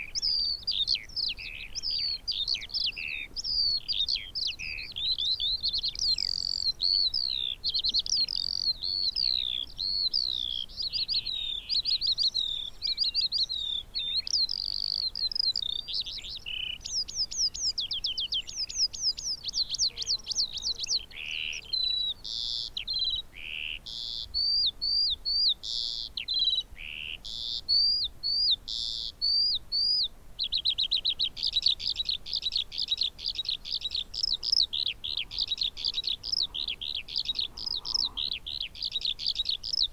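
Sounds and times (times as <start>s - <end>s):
skylark singing: 0.0s - 39.9s.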